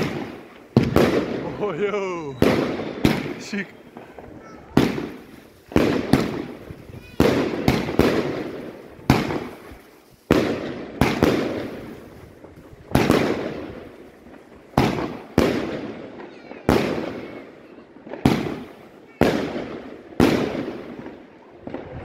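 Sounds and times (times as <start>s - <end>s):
firework shots: 0.0s - 22.0s.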